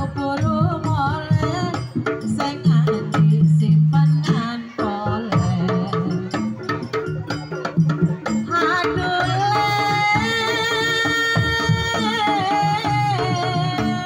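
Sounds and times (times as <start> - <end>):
hand-drum strokes: 0.0 - 14.0.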